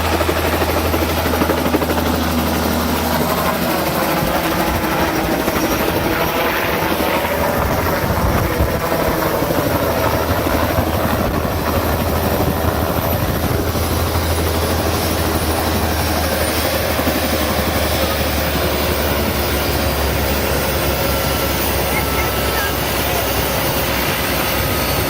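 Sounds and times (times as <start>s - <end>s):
helicopter rotor chopping: 0.0s - 25.0s.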